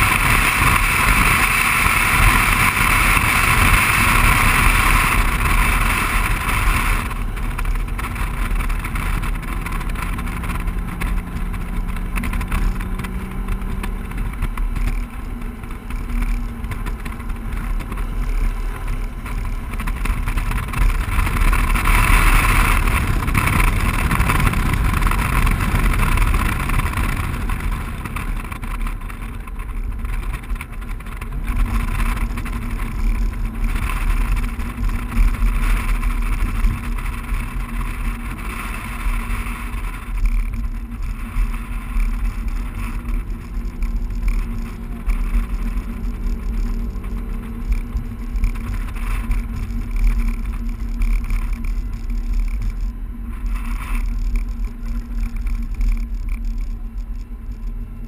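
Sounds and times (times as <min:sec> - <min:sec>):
car engine under load: 0:00.0 - 0:58.0
wind and road rush: 0:00.0 - 0:58.0.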